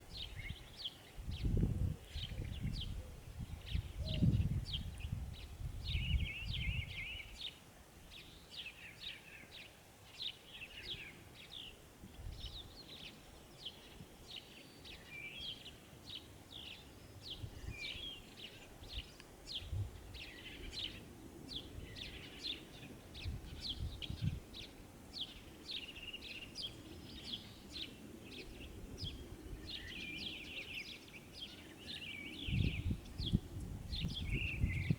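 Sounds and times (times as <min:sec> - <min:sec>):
small birds chirping: 0:03.6 - 0:34.9.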